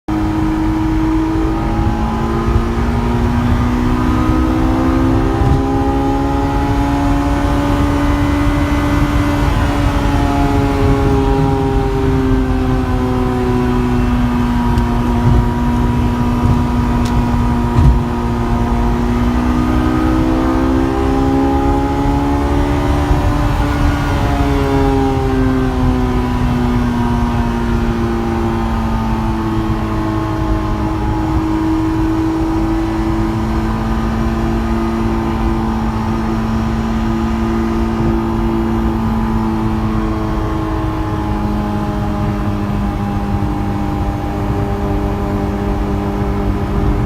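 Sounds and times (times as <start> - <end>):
car engine pulling in gear: 0.1 - 47.0
road rumble: 0.1 - 47.0.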